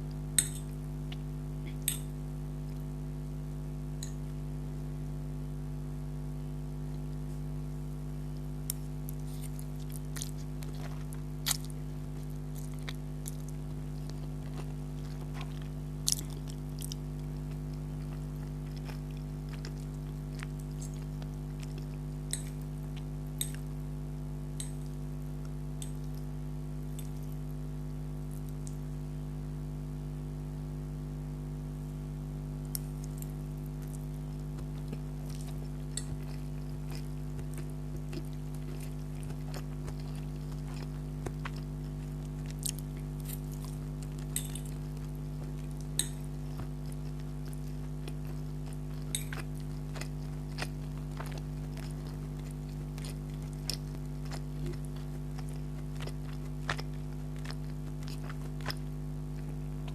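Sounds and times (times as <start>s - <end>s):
low electrical hum: 0.0s - 59.9s
chewing with wet mouth clicks: 0.1s - 2.9s, 4.0s - 4.4s, 8.4s - 23.8s, 24.6s - 27.5s, 32.7s - 59.9s.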